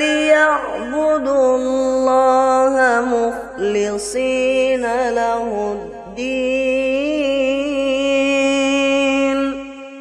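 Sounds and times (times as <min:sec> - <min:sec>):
person reciting melodically: 0:00.0 - 0:10.0.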